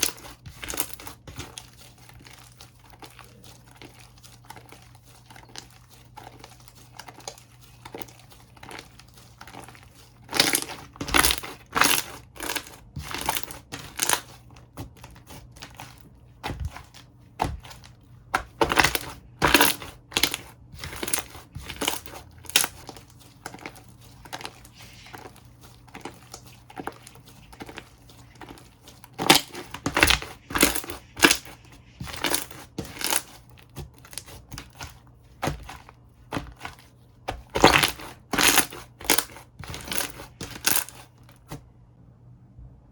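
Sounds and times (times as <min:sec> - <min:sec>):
slime crackling and popping: 0:00.0 - 0:35.7, 0:37.3 - 0:41.1
slime squishing: 0:00.0 - 0:41.7.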